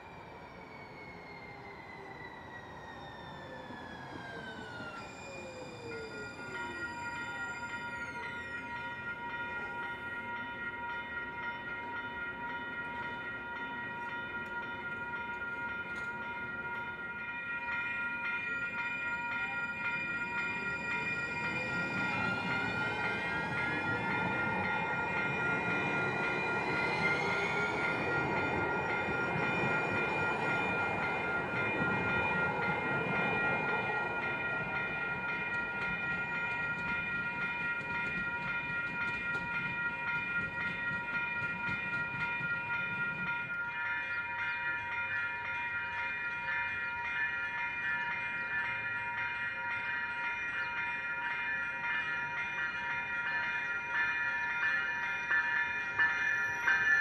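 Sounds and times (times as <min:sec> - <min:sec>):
train whine rising in pitch: 0:00.0 - 0:50.8
crossing bells ringing: 0:00.0 - 0:57.0
train passing: 0:00.0 - 0:57.0.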